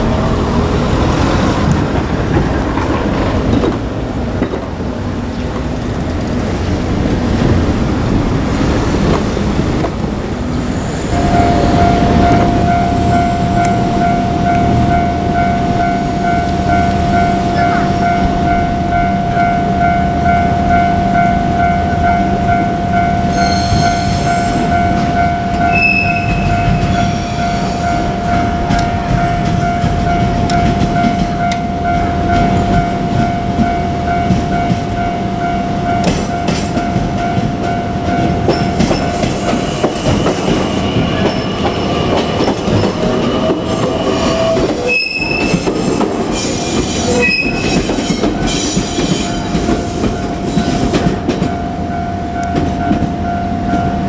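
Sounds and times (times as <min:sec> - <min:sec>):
train wheels clattering on rails: 0:00.0 - 0:54.0
crossing warning bell ringing: 0:09.5 - 0:54.0.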